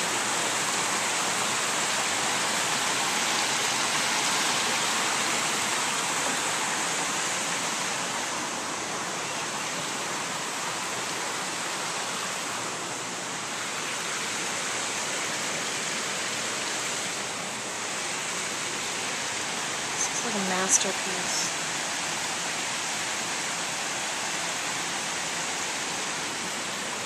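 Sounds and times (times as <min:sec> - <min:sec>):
water splashing over stone cascades: 0:00.0 - 0:27.0.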